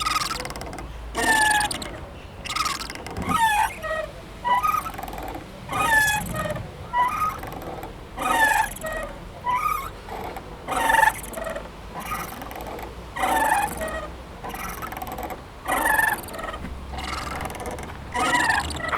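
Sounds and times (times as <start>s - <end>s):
playground swing squeaking: 0.0s - 18.9s.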